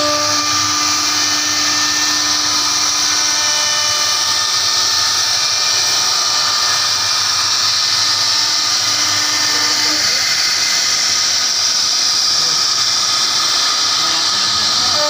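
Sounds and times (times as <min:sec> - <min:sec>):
bit cutting wood hiss: 0:00.0 - 0:15.0
router spindle whine: 0:00.0 - 0:15.0.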